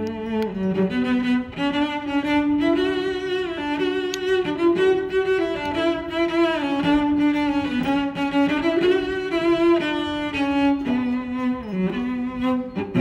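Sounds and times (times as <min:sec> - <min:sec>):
slow bowed string melody: 0:00.0 - 0:13.0.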